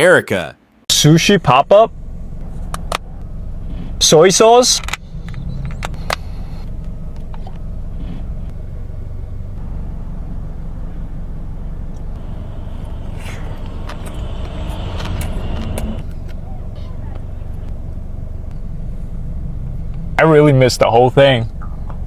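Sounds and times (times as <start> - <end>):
car engine rumble inside cabin: 1.5 - 22.0.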